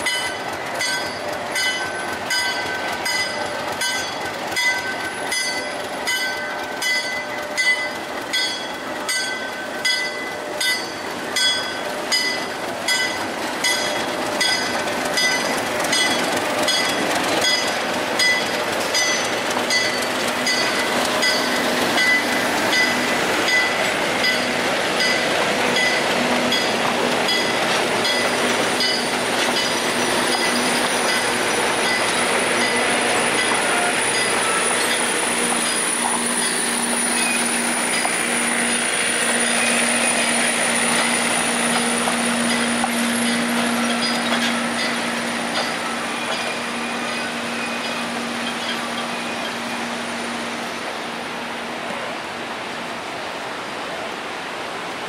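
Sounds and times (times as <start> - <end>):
wheels clicking over rail joints: 0.0 - 49.7
high whine from train wheels: 0.0 - 55.0
train rumble: 0.0 - 55.0.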